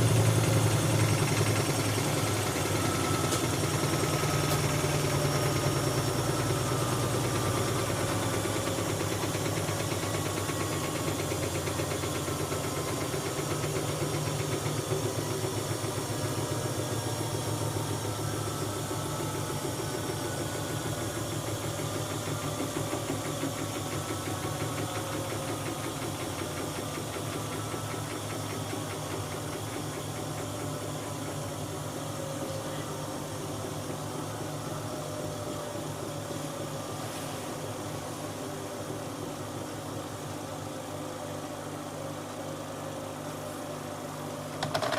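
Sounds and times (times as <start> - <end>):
washing machine spinning down: 0.0 - 44.9.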